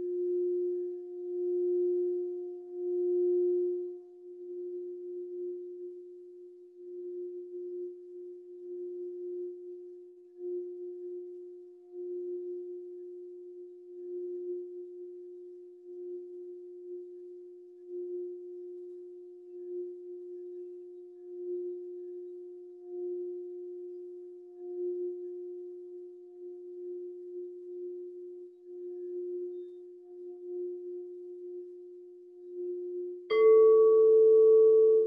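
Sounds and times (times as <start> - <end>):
singing bowl ringing tone: 0.0 - 35.0.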